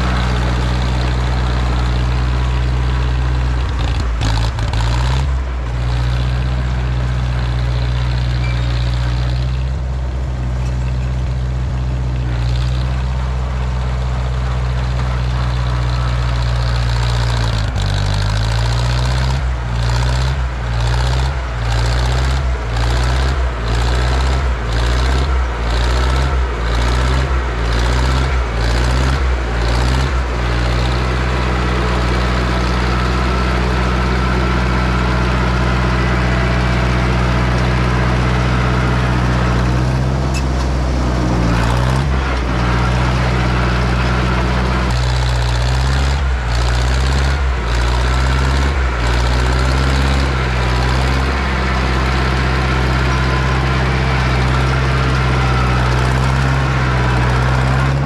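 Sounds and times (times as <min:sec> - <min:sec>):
bulldozer engine running under load: 0:00.0 - 0:58.0.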